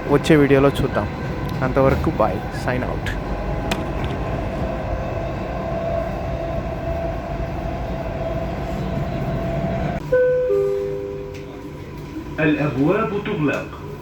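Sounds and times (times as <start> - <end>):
metro train running: 0.0 - 14.0.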